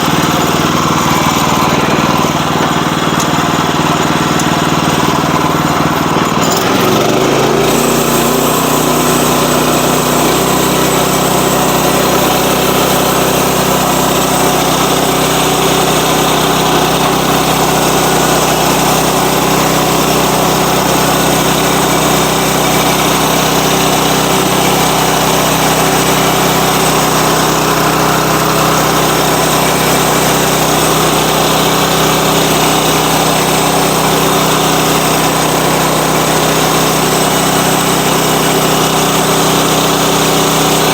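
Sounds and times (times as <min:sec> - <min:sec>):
saw cutting through log: 0:00.0 - 0:40.9
small gasoline engine running: 0:00.0 - 0:40.9.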